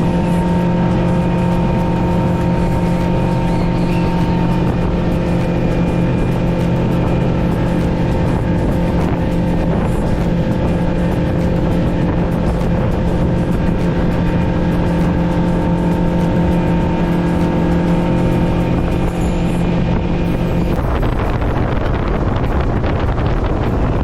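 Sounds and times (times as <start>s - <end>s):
motorboat engine running: 0.0s - 24.0s
wind and water rushing: 0.0s - 24.0s.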